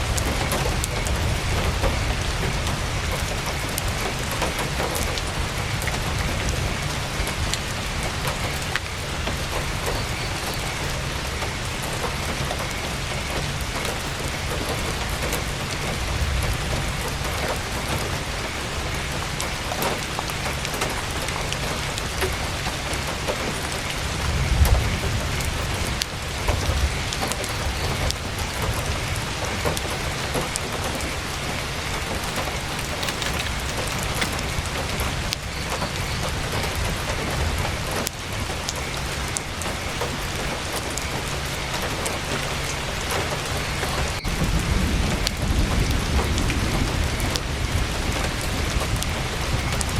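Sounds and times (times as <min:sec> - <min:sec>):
heavy rain on tent canvas: 0:00.0 - 0:49.9.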